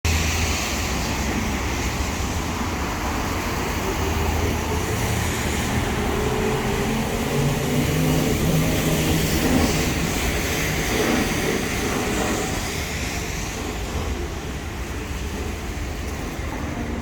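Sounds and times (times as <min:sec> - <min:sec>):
traffic noise: 0:00.0 - 0:17.0
vehicle passing on wet street: 0:00.1 - 0:17.0.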